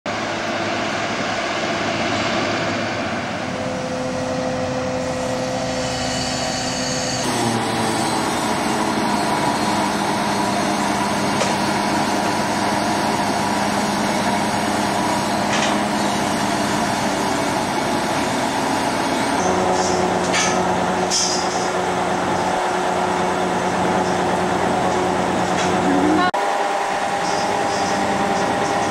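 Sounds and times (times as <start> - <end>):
machinery humming: 0.1 - 28.9.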